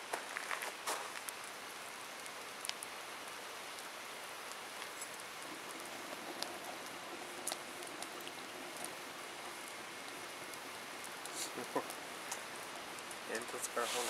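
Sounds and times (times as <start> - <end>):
fire crackles: 0.0 - 14.0
wood fire hissing: 0.0 - 14.0.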